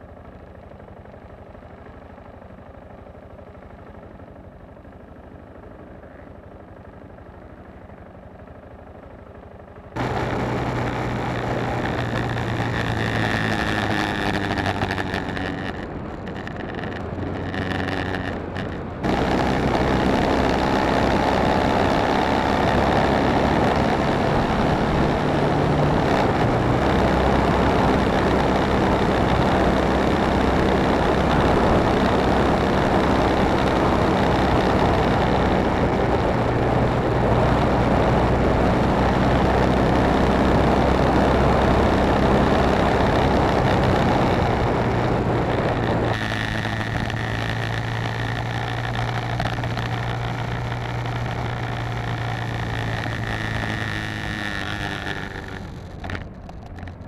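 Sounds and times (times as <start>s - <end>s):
motorcycle engine running: 0.0s - 57.0s
faint high whine: 1.1s - 57.0s
wind rush on camera: 10.0s - 57.0s.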